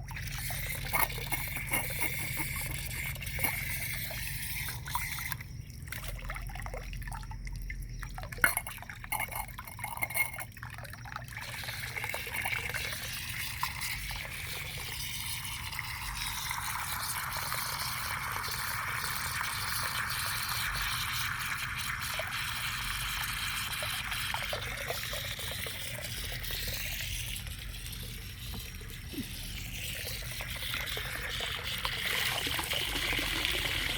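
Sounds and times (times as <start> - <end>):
constant low hum: 0.0 - 33.9
water trickling and dripping: 0.0 - 33.9.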